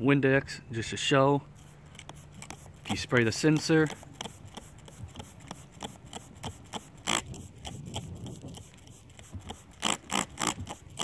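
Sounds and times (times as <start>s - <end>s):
spray bottle hissing sprays: 1.5s - 11.0s.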